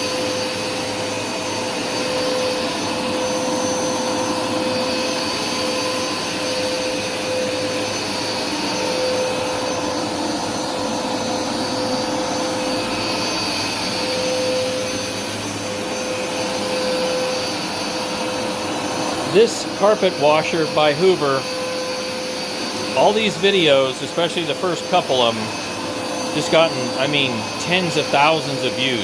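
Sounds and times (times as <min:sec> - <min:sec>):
carpet washer suction motor: 0:00.0 - 0:29.0.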